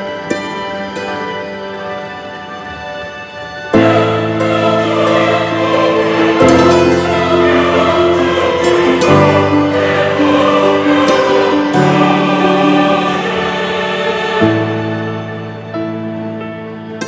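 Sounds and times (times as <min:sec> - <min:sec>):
slow held chords: 0:00.0 - 0:17.0.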